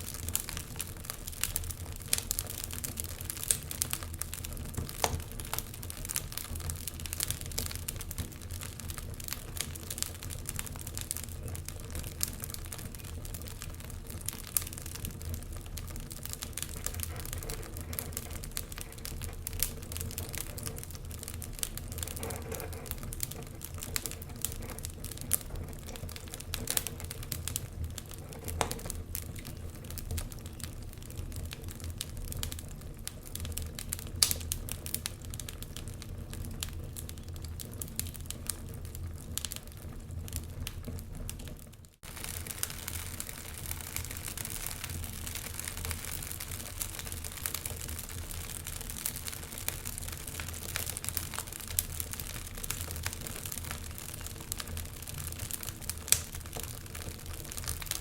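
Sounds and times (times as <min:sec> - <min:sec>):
fire rumbling: 0:00.0 - 0:58.0
wood fire crackling: 0:00.0 - 0:58.0.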